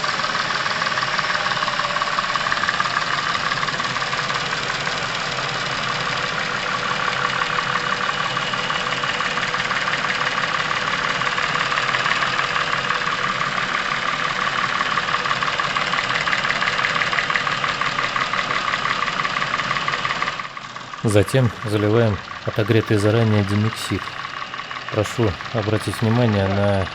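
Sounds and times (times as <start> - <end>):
car engine idling with valve clatter: 0.0 - 26.9.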